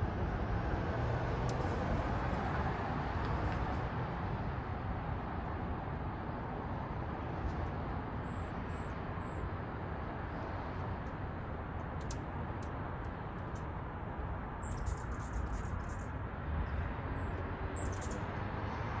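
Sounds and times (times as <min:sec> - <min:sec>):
city traffic noise: 0:00.0 - 0:19.0.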